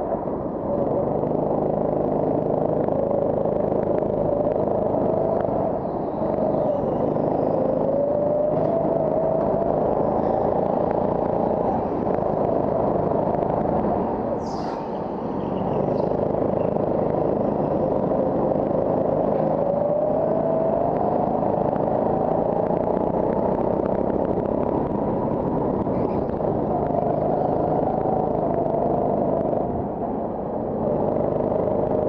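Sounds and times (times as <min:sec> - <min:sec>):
go-kart engine running hard: 0:00.8 - 0:29.7, 0:30.8 - 0:32.0.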